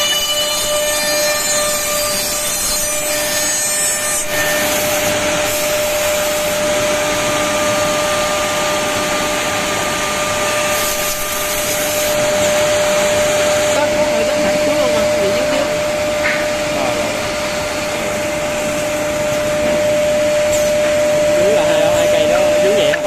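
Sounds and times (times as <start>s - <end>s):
cutters milling wood: 0.0s - 23.0s.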